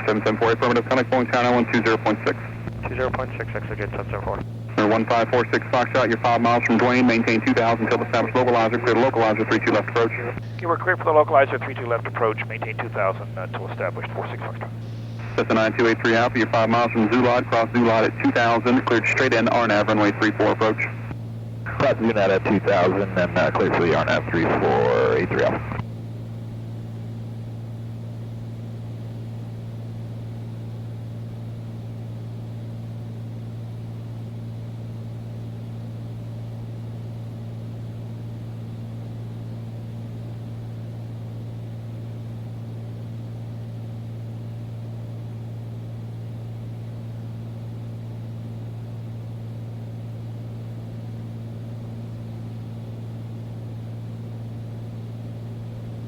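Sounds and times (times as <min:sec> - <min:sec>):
airplane engine droning: 0:00.0 - 0:56.0.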